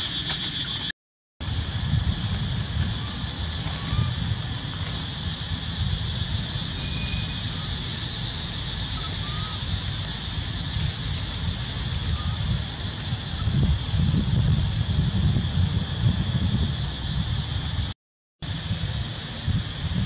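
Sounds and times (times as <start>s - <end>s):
constant high hiss: 0.0s - 20.0s
wind buffeting microphone: 1.4s - 17.9s, 18.5s - 20.0s.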